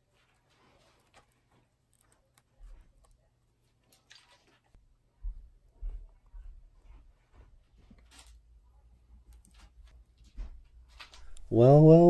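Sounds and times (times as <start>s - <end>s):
soft rustle of handling: 0.0s - 11.5s.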